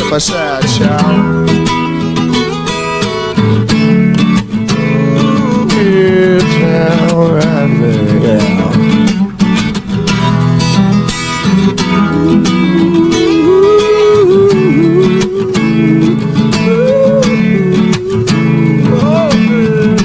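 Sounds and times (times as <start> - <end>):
lead guitar with bending notes: 0.0 - 20.0
strummed guitar chords: 0.0 - 20.0.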